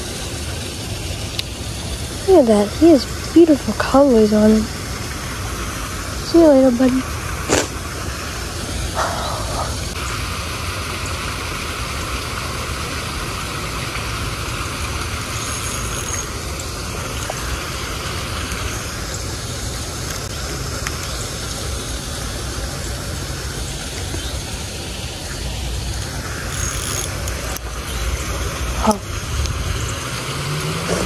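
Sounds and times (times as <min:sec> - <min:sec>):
water rushing over spillway: 0:00.0 - 0:31.0.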